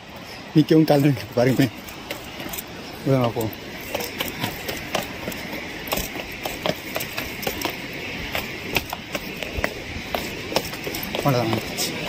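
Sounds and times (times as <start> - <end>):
waterfall rushing: 0.0 - 12.0
footsteps on concrete stairs: 1.0 - 12.0.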